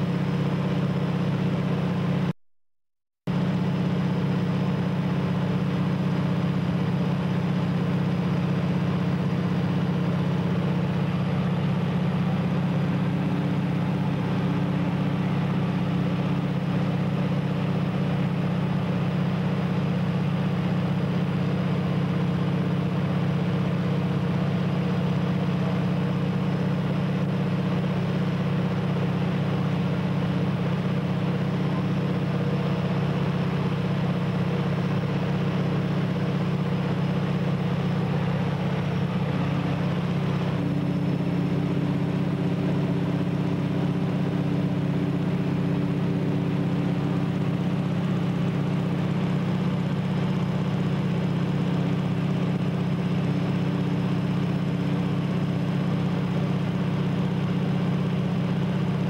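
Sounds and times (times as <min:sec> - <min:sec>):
plane engine and propeller droning: 0:00.0 - 0:02.3, 0:03.3 - 0:59.0.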